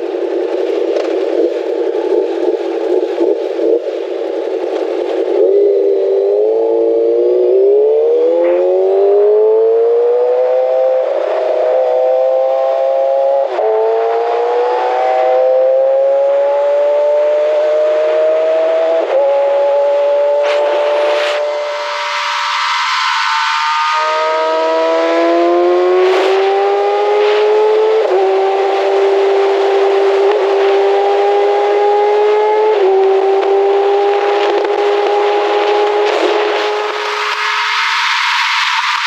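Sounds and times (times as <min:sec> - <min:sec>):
motorcycle engine accelerating: 0:00.0 - 0:39.0
wind noise: 0:00.0 - 0:39.0.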